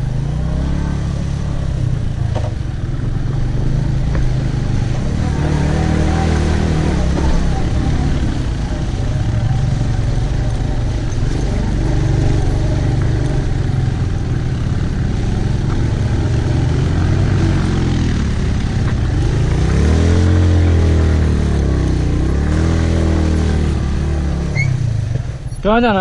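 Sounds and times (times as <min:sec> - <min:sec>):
motorcycle engine running: 0:00.0 - 0:26.0
steady rushing noise: 0:00.0 - 0:26.0.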